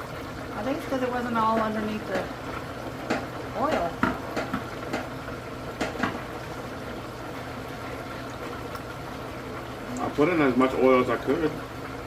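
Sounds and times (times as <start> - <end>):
hot oil bubbling in fryer: 0.0 - 12.0.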